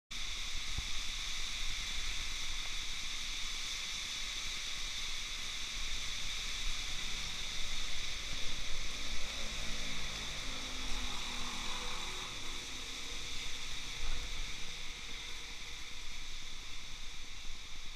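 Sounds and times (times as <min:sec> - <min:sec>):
heavy rain on pavement: 0:00.3 - 0:17.9.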